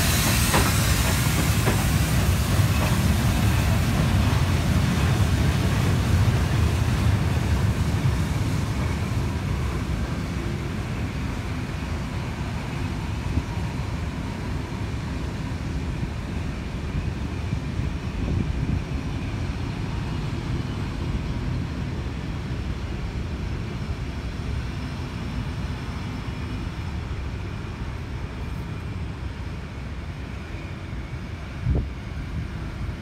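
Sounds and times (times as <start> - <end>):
train carriages rolling past: 0.0 - 33.0.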